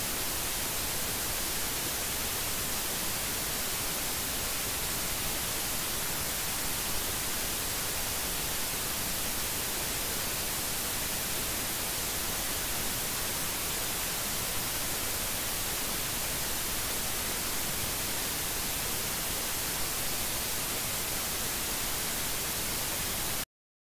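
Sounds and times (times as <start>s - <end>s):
static hiss: 0.0s - 23.4s.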